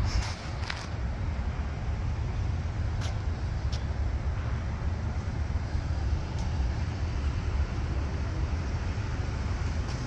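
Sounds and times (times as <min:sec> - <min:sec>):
road traffic rumble: 0:00.0 - 0:10.0
wind: 0:00.0 - 0:10.0.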